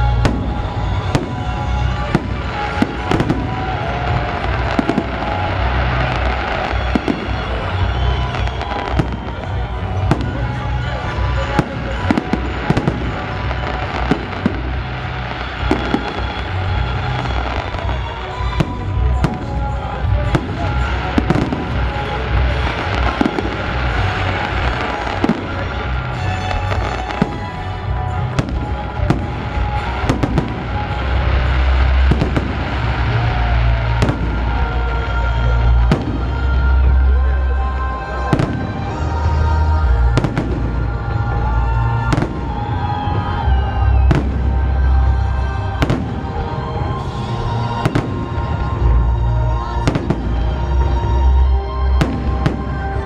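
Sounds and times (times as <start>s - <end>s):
fireworks bangs and crackles: 0.0s - 53.0s
music playing: 0.0s - 53.0s.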